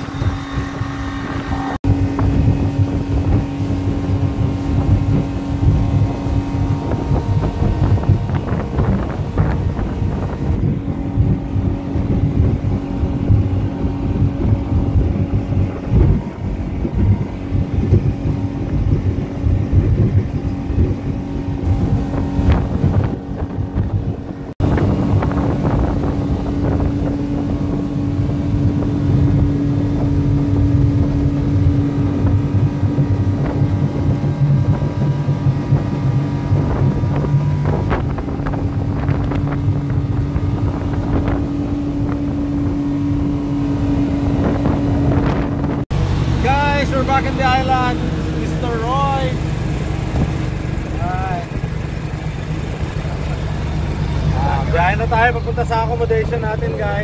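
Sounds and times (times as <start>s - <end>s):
outboard motor droning: 0.0s - 57.0s
water rushing past hull: 0.0s - 57.0s
wind on microphone: 0.0s - 57.0s.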